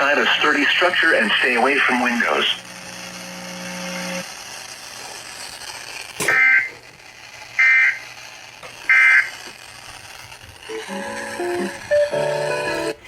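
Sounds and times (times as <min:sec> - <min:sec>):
buzzy data tone bursts: 0:00.0 - 0:13.0.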